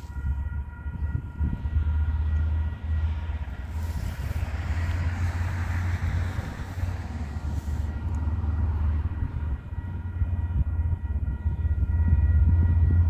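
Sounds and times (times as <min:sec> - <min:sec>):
crossing warning alarm tones: 0:00.0 - 0:13.0
train engine rumble: 0:00.0 - 0:13.0
train wheels on rails: 0:00.0 - 0:13.0.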